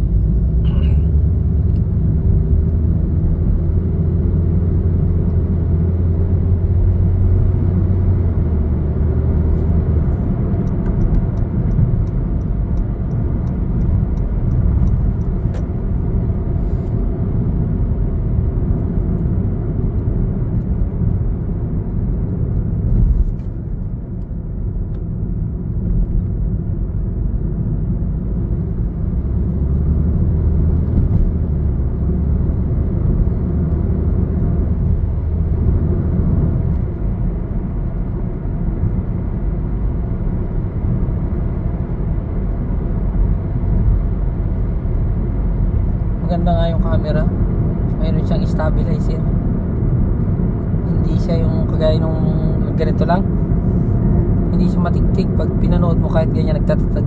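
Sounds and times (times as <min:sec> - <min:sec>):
car cabin road rumble: 0:00.0 - 0:57.0
faint engine hum: 0:00.0 - 0:57.0.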